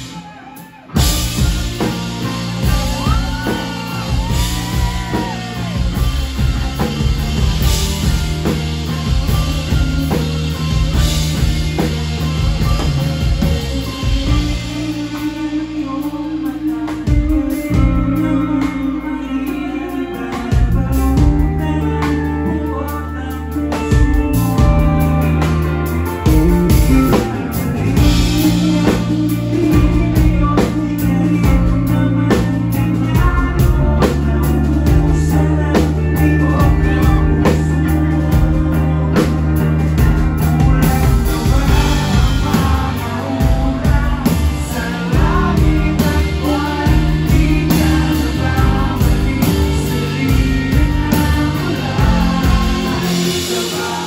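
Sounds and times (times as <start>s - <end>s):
bass guitar notes: 0.0s - 54.0s
live rock band playing: 0.0s - 54.0s.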